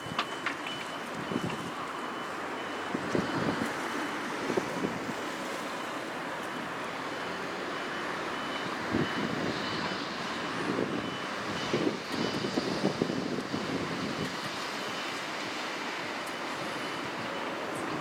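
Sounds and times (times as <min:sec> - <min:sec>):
reversing alarm beeps: 0:00.0 - 0:18.0.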